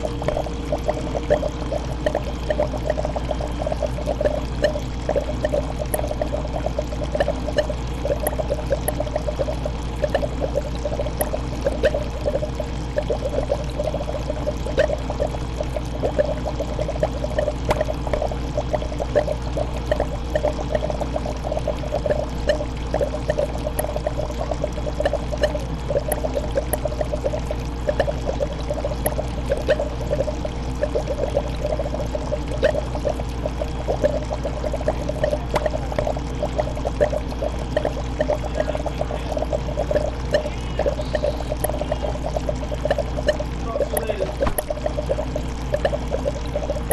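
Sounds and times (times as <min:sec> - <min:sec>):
aquarium water bubbling: 0:00.0 - 0:46.9
low steady hum: 0:00.0 - 0:46.9.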